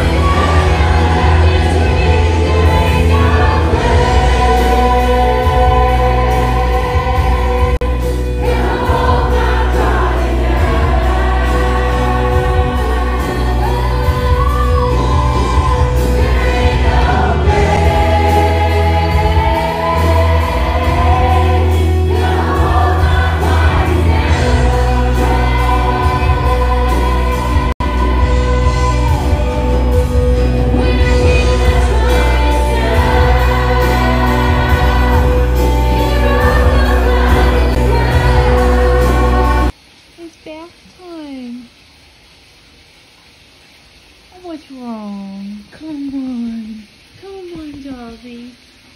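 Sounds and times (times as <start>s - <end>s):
worship music with singers and band: 0.0s - 40.6s.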